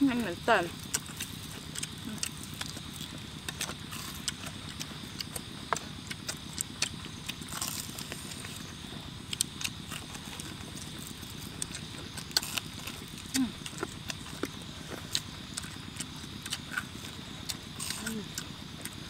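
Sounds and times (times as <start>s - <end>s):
crunching and chewing food: 0.0s - 19.0s
steady low hum: 0.0s - 19.0s.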